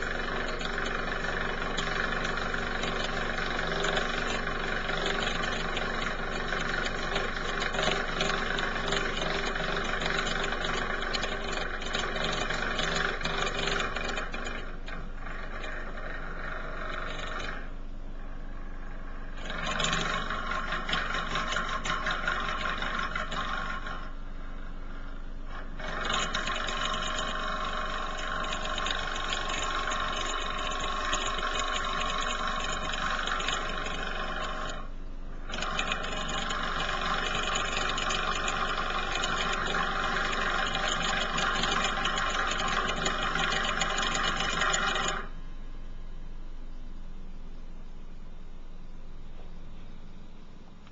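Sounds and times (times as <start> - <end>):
washing machine drone: 0.0 - 50.9.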